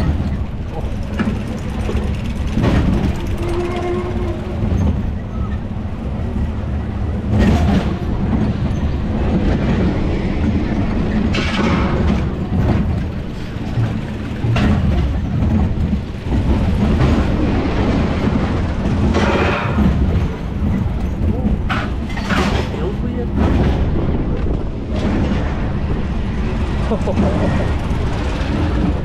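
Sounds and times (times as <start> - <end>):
roller coaster clatters: 0.0 - 29.0
roller coaster wheels rumbling on rail: 0.0 - 29.0.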